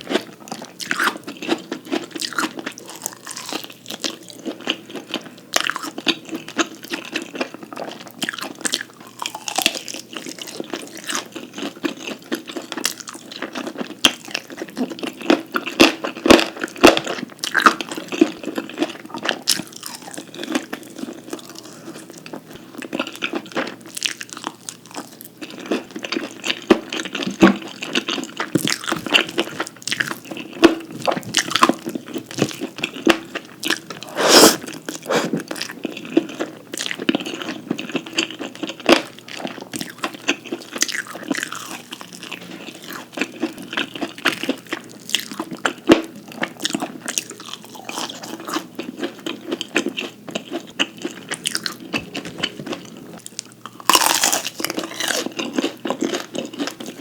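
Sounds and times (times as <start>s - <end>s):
crunchy chewing: 0.0s - 57.0s.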